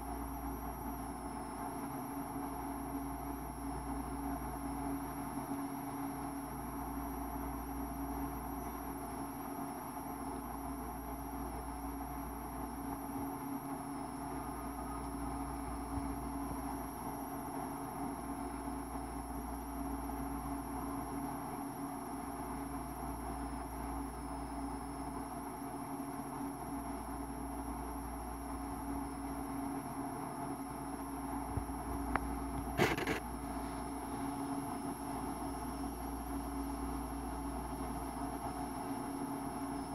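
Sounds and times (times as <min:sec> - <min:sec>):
mechanical hum with whine: 0:00.0 - 0:39.9.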